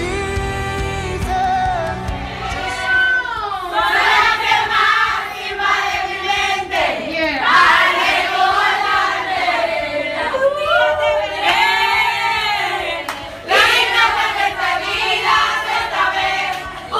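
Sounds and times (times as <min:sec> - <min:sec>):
choir singing: 0:00.0 - 0:16.9.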